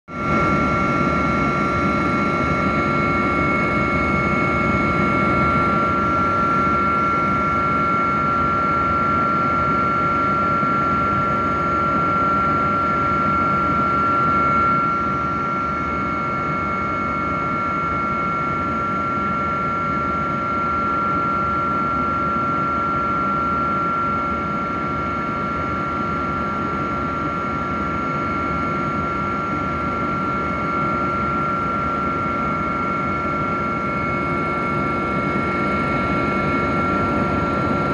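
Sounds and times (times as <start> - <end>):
helicopter engine and rotor drone: 0.1 - 37.9.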